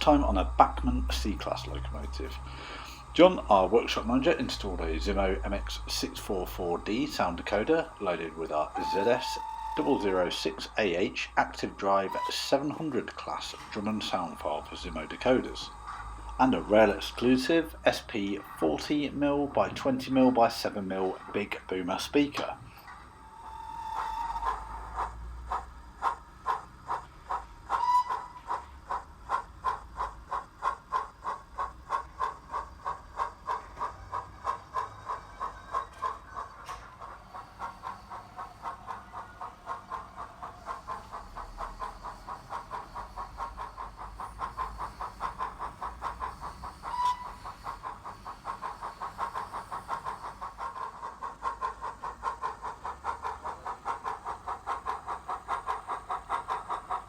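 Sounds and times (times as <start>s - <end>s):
steam locomotive chuffs with hiss: 0.0s - 57.0s.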